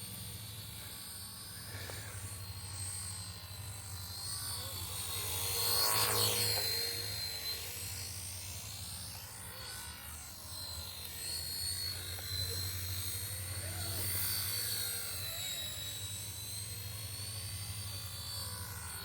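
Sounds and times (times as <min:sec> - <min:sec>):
low rotor hum: 0:00.0 - 0:19.0
model helicopter whine: 0:00.0 - 0:19.0.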